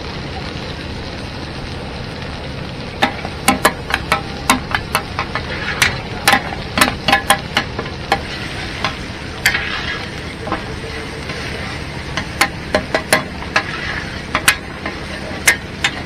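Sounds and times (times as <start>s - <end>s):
oil sizzling in wok: 0.0s - 16.0s
ladles clacking against wok: 3.0s - 16.0s.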